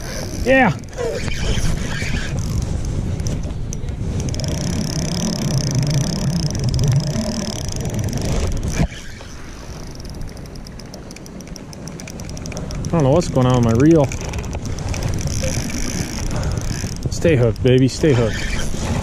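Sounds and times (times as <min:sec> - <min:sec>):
rod rubbing against camera: 0:00.0 - 0:03.4, 0:04.1 - 0:11.0, 0:13.6 - 0:19.0
fishing reel ticking: 0:00.0 - 0:19.0.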